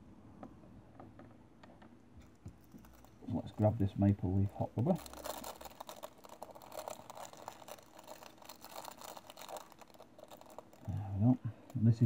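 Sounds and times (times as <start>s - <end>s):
plastic packet crinkling: 2.3s - 12.0s.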